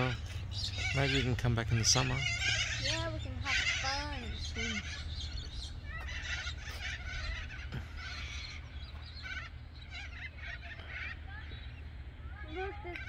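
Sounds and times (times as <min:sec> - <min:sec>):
birds calling: 0:00.0 - 0:13.0
steady low rumble: 0:00.0 - 0:13.0.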